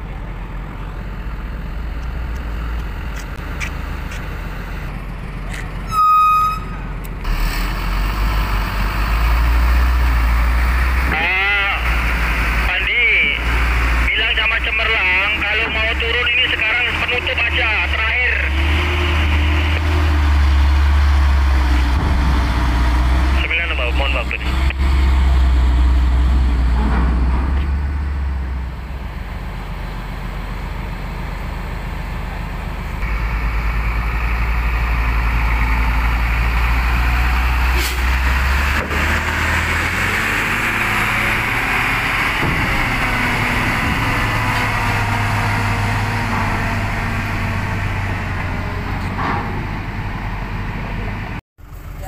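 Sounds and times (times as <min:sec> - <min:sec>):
truck diesel engines droning: 0:00.0 - 0:52.0.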